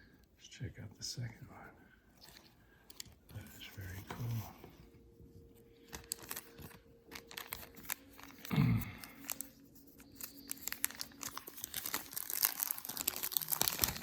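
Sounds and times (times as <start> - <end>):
packaging crinkling: 2.2 - 14.0.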